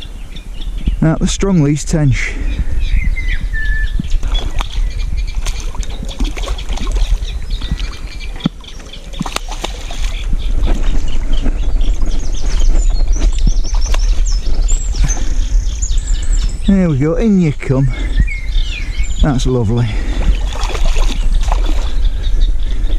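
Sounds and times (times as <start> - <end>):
low rumble on microphone: 0.0 - 22.9
small birds chirping and singing: 0.0 - 22.9.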